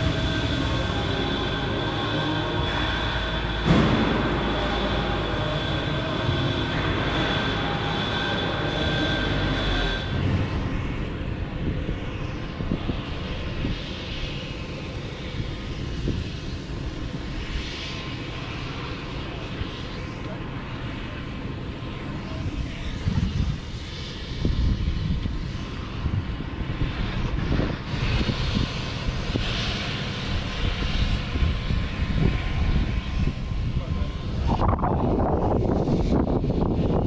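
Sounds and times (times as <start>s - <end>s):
helicopter turbine engines: 0.0s - 37.0s.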